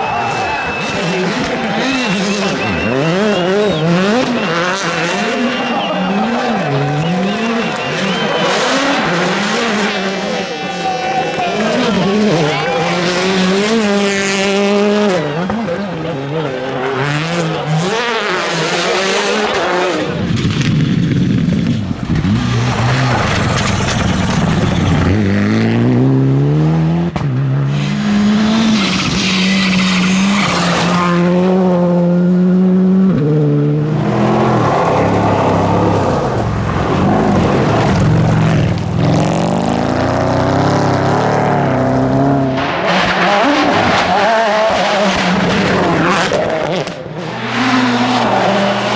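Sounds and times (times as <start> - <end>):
rally car engines revving: 0.0 - 48.9
rushing tyre noise: 0.0 - 48.9.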